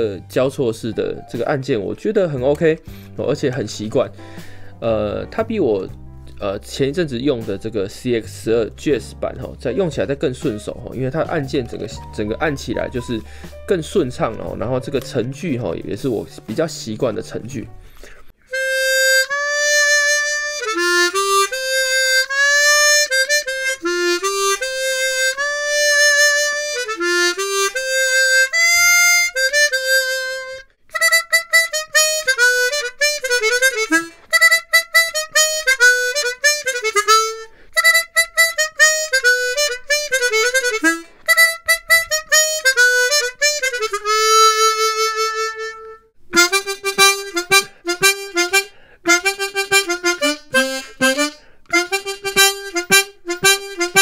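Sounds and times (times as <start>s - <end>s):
harmonica melody: 2.8s - 5.4s, 8.5s - 54.0s.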